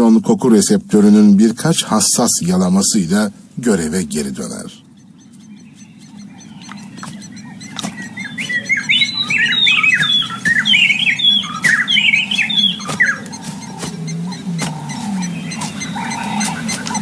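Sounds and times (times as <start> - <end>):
low steady hum: 0.0 - 17.0
small birds chirping: 0.0 - 17.0.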